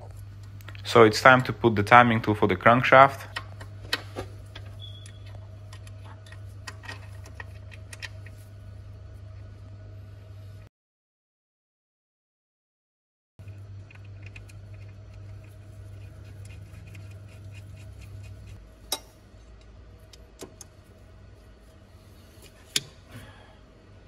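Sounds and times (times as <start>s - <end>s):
low steady hum: 0.0s - 10.7s, 13.4s - 24.0s.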